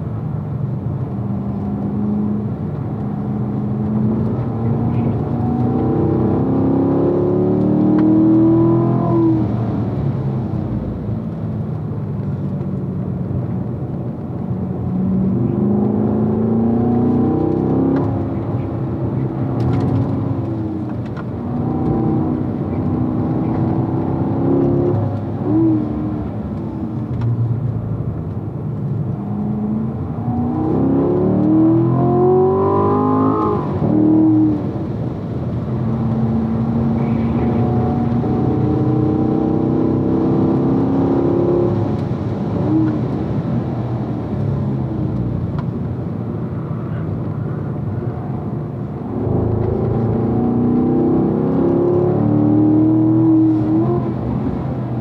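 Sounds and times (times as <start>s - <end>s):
car engine revving: 1.2s - 10.2s, 14.5s - 55.0s.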